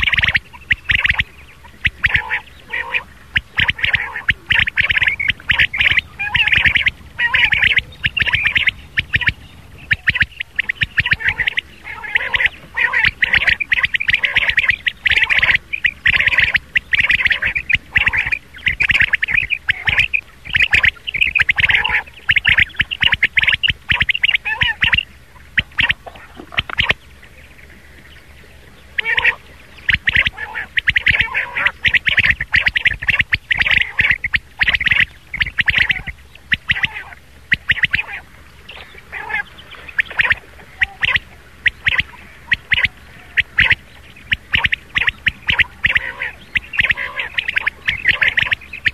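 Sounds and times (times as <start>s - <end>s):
quail call: 0.0s - 27.0s, 28.9s - 48.9s.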